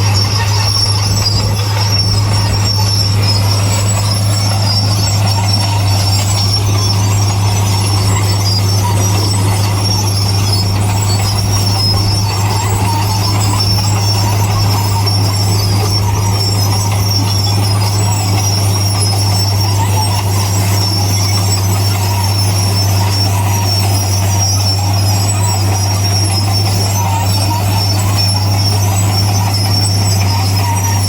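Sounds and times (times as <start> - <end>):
bulldozer engine hum: 0.0 - 31.0
high metallic track squeal: 0.0 - 31.0.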